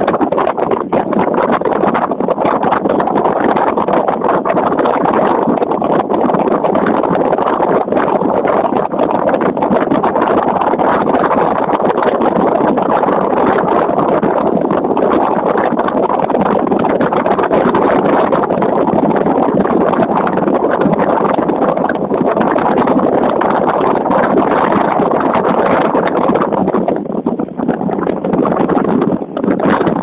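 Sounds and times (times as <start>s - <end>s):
water washing past hull: 0.0s - 30.0s.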